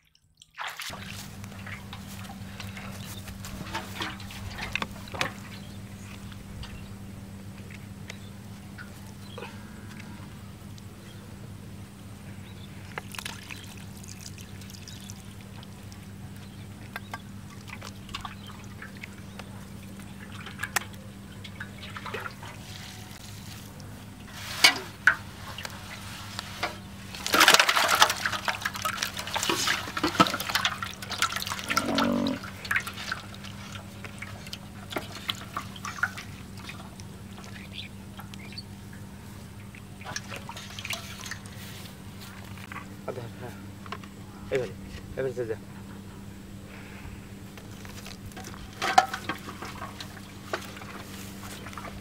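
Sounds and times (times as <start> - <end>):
water splashing and sloshing: 0.0 - 11.1, 12.1 - 44.6, 46.7 - 52.0
faint steady hum: 0.1 - 52.0.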